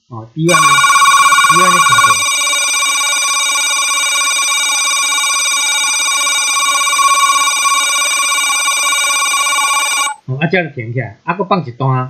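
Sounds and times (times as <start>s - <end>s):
buzzy electronic tone: 0.5s - 10.2s.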